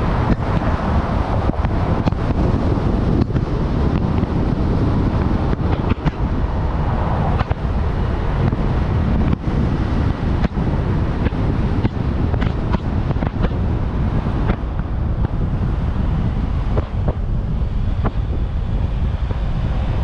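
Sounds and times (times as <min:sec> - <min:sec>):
car road and engine noise: 0:00.0 - 0:20.0
wind buffeting microphone: 0:00.0 - 0:20.0.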